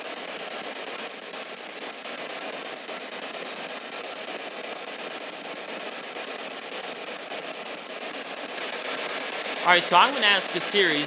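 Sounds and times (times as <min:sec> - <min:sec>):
radio static with choppy fragments: 0:00.0 - 0:11.0.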